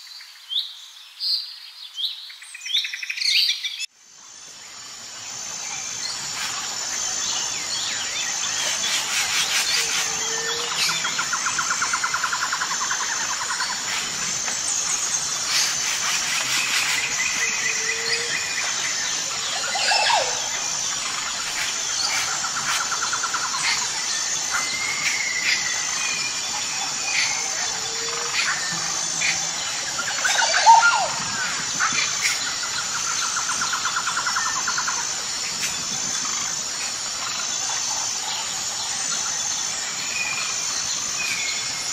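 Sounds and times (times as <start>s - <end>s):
birds chirping and singing: 5.3s - 41.9s.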